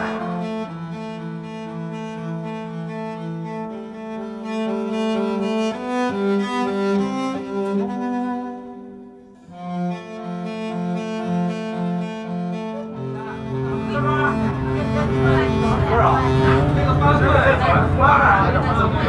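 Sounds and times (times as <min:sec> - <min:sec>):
slow bowed strings music: 0:00.0 - 0:19.0.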